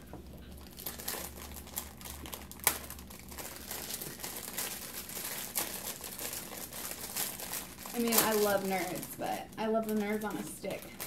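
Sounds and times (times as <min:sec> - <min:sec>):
plastic wrapper crinkling: 0:00.2 - 0:11.0.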